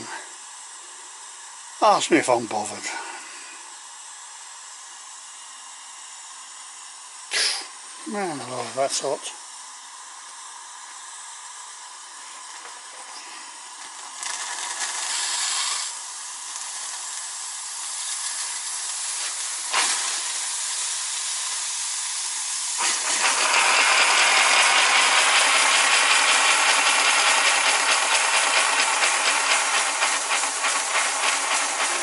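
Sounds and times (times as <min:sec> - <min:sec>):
steam hissing: 0:00.0 - 0:32.0.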